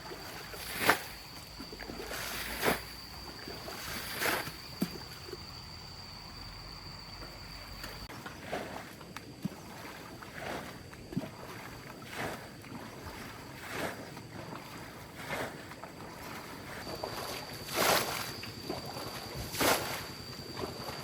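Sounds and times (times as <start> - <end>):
water splashing: 0.0 - 5.4, 7.2 - 21.0.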